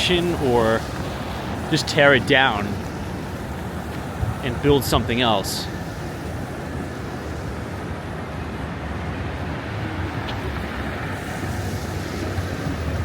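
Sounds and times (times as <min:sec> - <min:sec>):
passing traffic with low rumble: 0:00.0 - 0:13.0.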